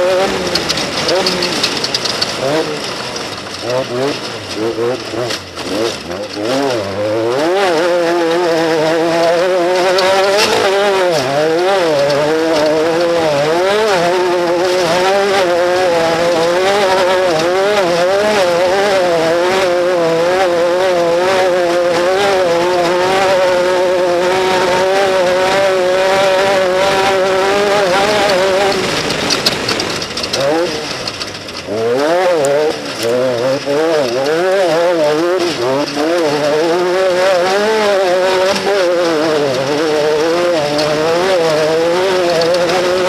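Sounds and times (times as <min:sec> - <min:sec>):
engine running at high revs: 0:00.0 - 0:43.0.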